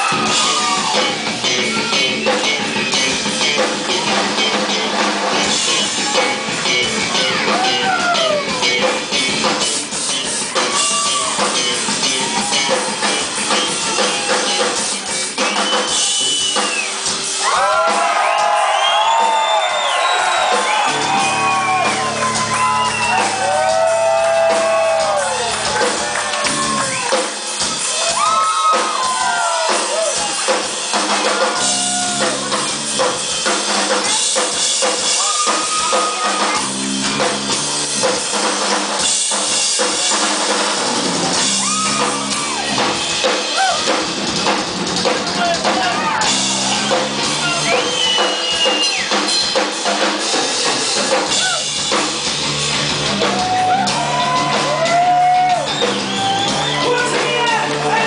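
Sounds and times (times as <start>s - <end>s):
bass: 0.0s - 58.0s
drum kit: 0.0s - 58.0s.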